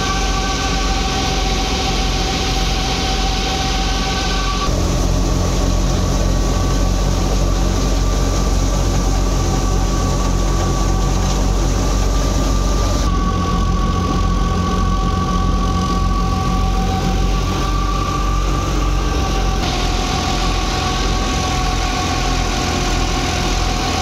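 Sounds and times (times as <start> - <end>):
grain pouring from chute: 0.0 - 24.0
wheat thresher droning: 0.0 - 24.0.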